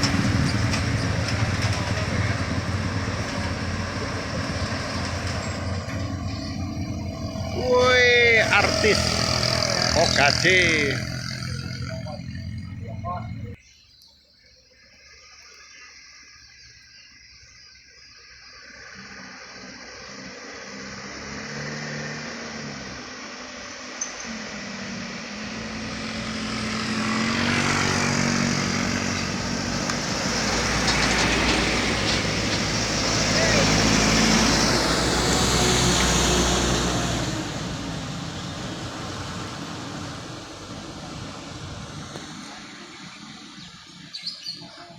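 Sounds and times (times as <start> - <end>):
truck engine approaching: 0.0 - 13.6, 18.6 - 44.1
road noise: 0.0 - 13.7, 18.0 - 44.9.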